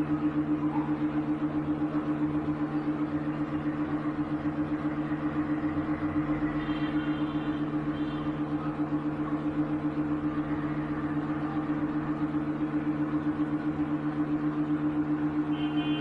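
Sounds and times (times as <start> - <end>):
pulsing low electrical hum: 0.0 - 16.0.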